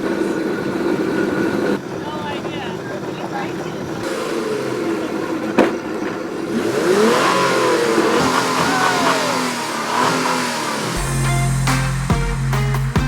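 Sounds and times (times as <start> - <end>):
racing vehicles accelerating: 0.0 - 12.0.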